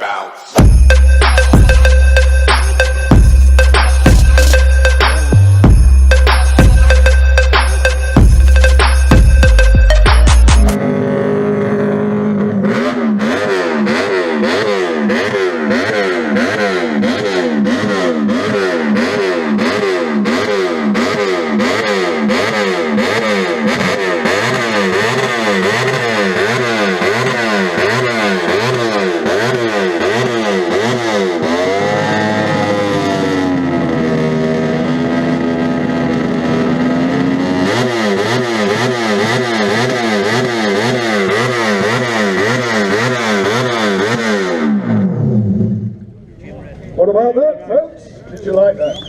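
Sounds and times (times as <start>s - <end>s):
motorcycle engine revving: 0.6s - 46.9s.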